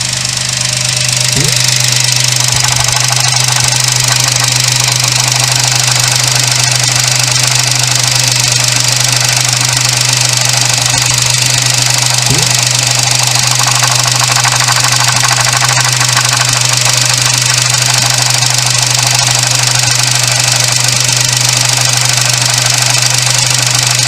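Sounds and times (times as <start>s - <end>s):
alternator noise: 0.0s - 24.0s
car engine running: 0.0s - 24.0s.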